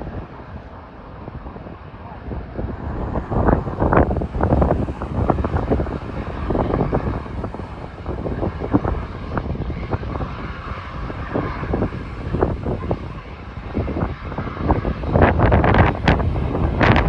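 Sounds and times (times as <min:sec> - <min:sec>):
jet airliner rumble: 0:00.0 - 0:17.0
wind buffeting microphone: 0:00.0 - 0:17.0.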